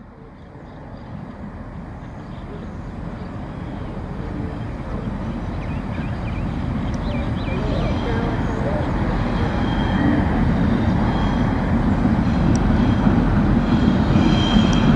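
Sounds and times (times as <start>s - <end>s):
diesel locomotive engine: 0.0s - 14.9s
train rumble: 0.0s - 14.9s.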